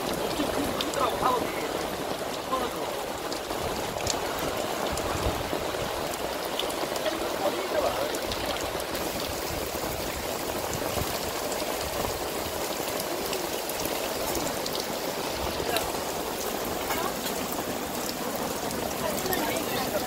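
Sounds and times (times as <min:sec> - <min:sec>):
heavy rain on grass and leaves: 0:00.0 - 0:20.0.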